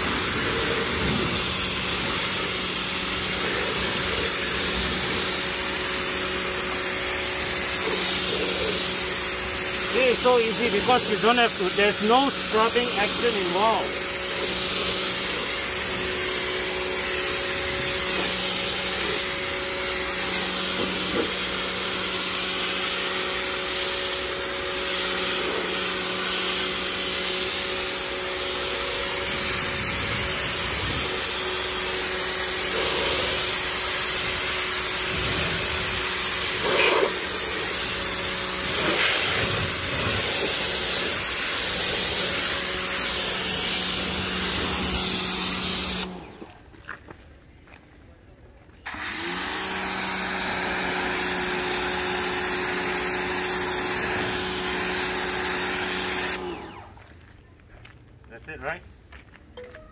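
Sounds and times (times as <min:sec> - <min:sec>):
pressure washer spraying water: 0:00.0 - 0:46.6, 0:48.9 - 0:57.1.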